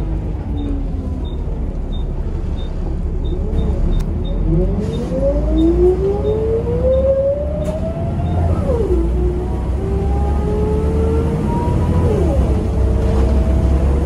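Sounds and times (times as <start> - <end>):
diesel engine drone: 0.0 - 14.0
road noise: 0.0 - 14.0.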